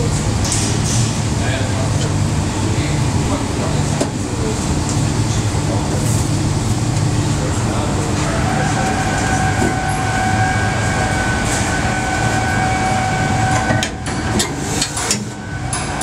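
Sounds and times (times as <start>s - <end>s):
machinery whining: 1.3s - 16.0s.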